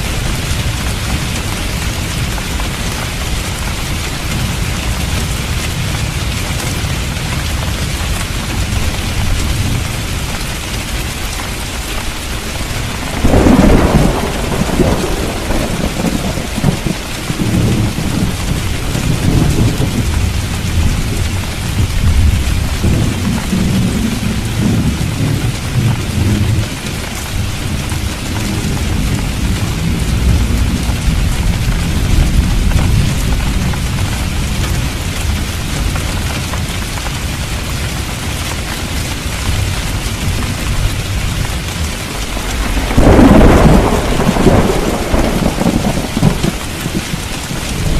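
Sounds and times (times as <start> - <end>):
heavy rain: 0.0 - 47.9
thunderclap and rolling thunder: 0.0 - 47.9.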